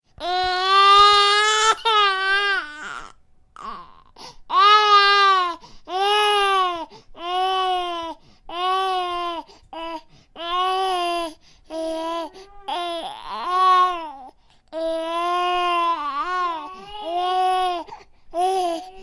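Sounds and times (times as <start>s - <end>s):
baby crying: 0.2s - 19.0s.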